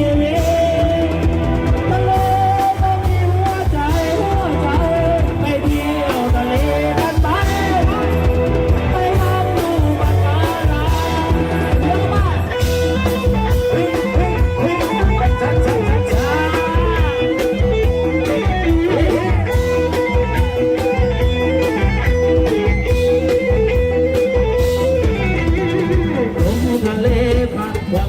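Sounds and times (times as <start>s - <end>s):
drum and bass beat: 0.0s - 28.0s
plucked electric lead bending notes: 0.0s - 28.0s.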